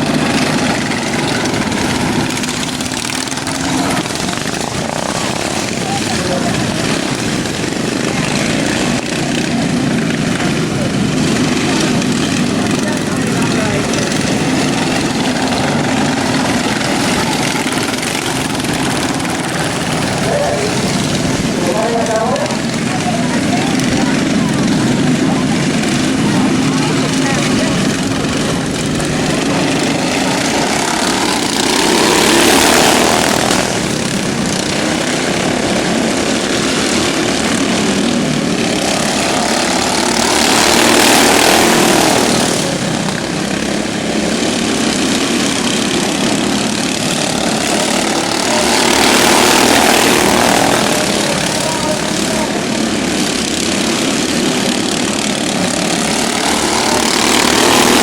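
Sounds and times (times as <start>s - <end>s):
racing lawn mower engines: 0.0s - 58.0s.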